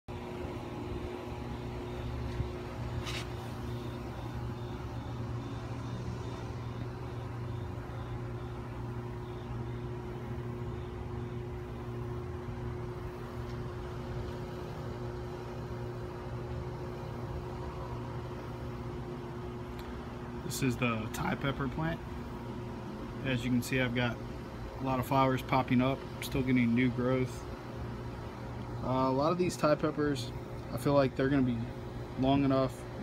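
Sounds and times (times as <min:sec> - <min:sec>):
low mechanical hum: 0:00.1 - 0:33.0.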